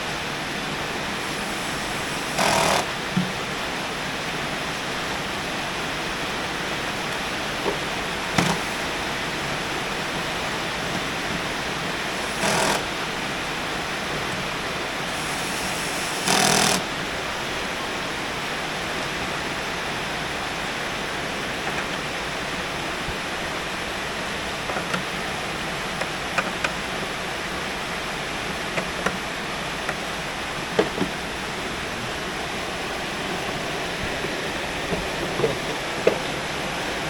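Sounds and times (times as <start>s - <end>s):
heavy rain hissing: 0.0s - 37.0s.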